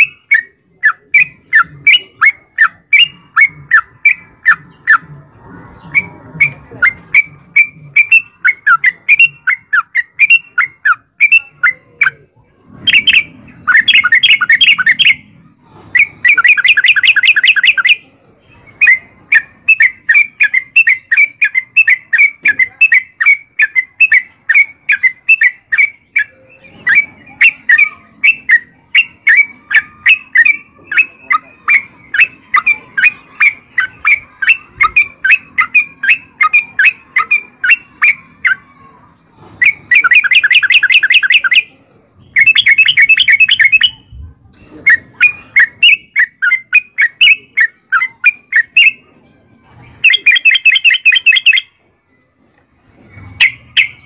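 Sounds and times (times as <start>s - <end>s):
bulbul trilling and chirping: 0.0s - 38.9s, 39.6s - 52.2s, 53.1s - 54.0s.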